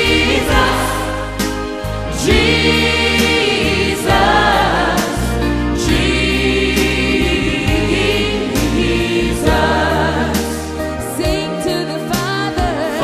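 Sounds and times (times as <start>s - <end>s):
sustained bass and backing music: 0.0s - 13.0s
voices singing worship song: 0.0s - 13.0s.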